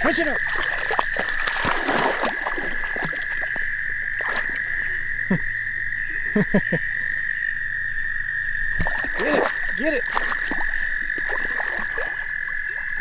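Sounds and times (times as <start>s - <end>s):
frog croaks: 0.0s - 13.0s
frogs trilling: 0.0s - 13.0s.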